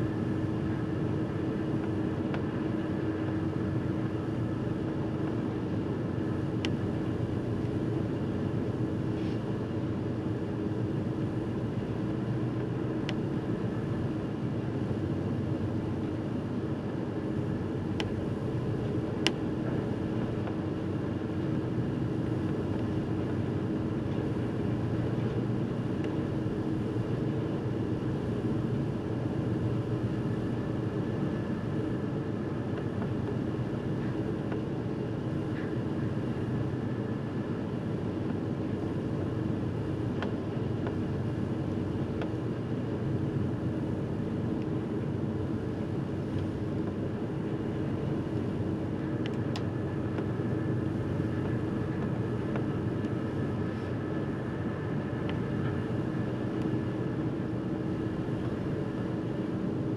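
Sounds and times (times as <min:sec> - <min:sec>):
wind: 0:00.0 - 0:59.9.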